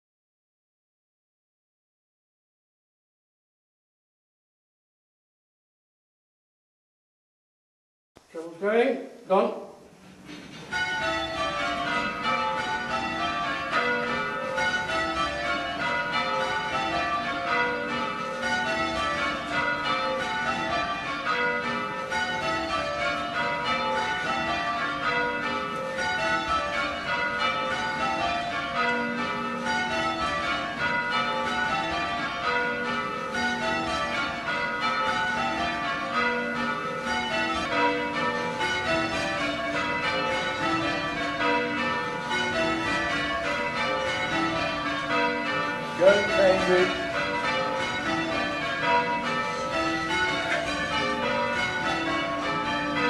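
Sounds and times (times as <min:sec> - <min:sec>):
church bells change ringing: 0:10.0 - 0:53.0.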